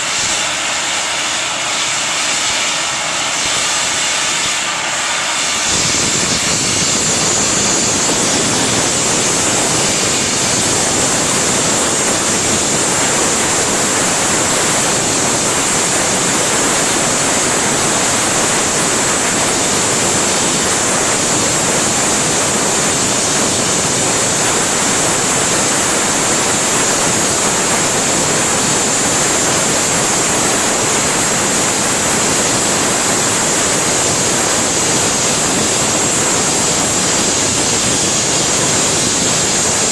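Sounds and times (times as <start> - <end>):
burner flame rushing hiss: 0.0 - 39.9
sharp high hiss: 0.0 - 39.9.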